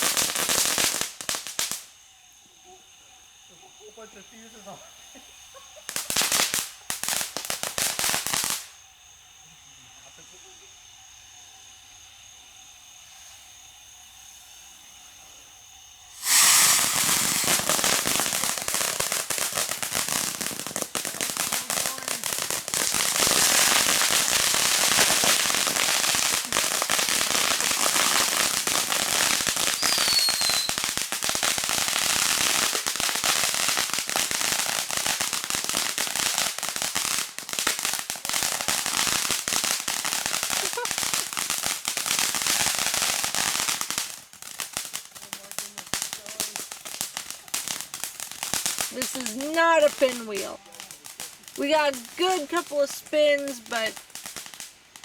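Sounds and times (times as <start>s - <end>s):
fireworks crackling hiss with pops: 0.0s - 55.0s.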